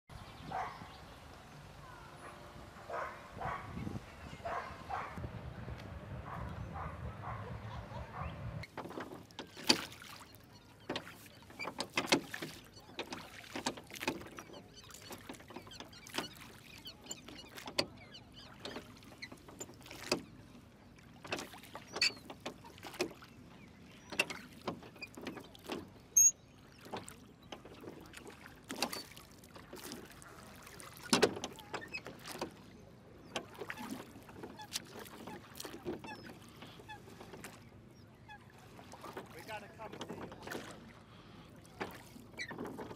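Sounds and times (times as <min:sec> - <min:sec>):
oars knocking and splashing: 0:08.1 - 0:42.9.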